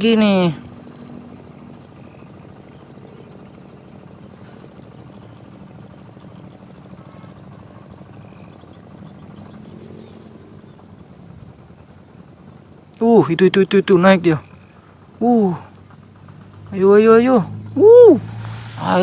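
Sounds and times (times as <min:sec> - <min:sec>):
crickets chirring: 0:00.0 - 0:19.0
low steady rumble: 0:00.0 - 0:19.0.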